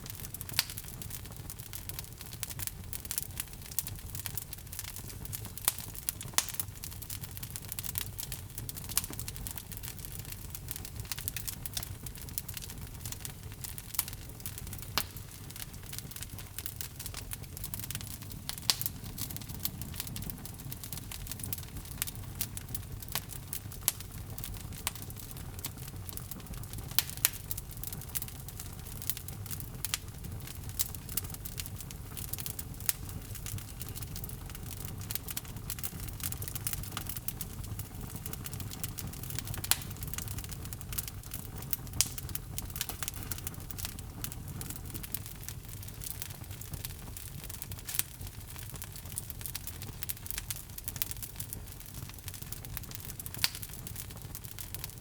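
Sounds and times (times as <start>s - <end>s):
burning logs crackling and popping: 0.0s - 55.0s
low rumble of flame: 0.0s - 55.0s.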